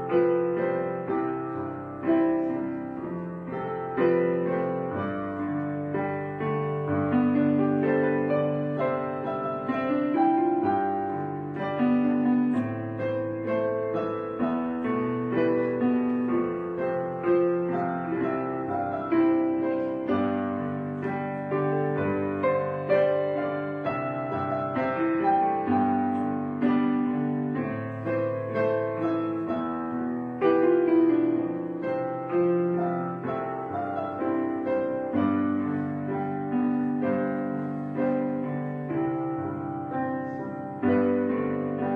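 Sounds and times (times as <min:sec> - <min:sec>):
calm piano music: 0:00.0 - 0:41.9.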